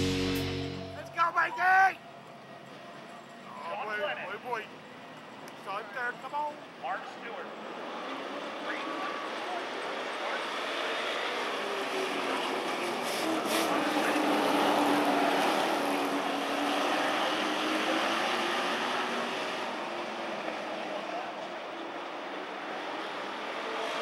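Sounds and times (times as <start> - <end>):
race truck engines blaring: 0.0 - 24.0.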